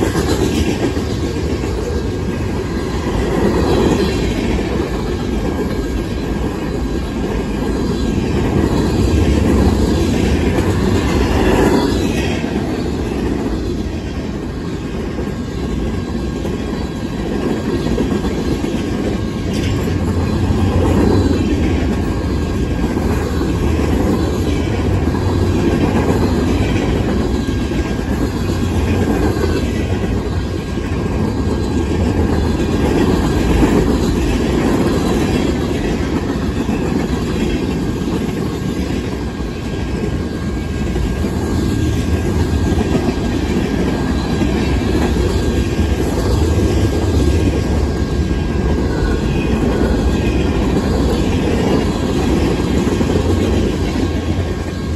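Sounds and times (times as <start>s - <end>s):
train wheels rumbling on rail: 0.0s - 54.9s
wheels clickety-clack over rail joints: 0.0s - 54.9s.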